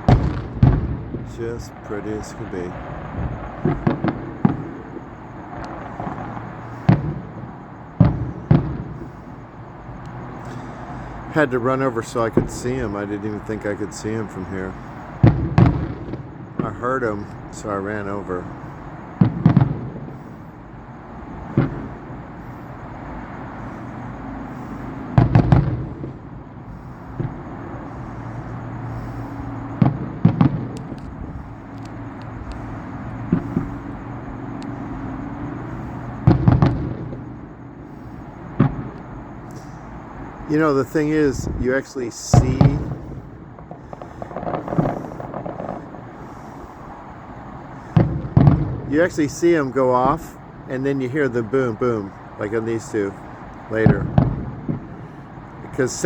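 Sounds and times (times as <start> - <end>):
distant fireworks booming: 0.0 - 56.0
faint fireworks crackles: 0.0 - 56.0.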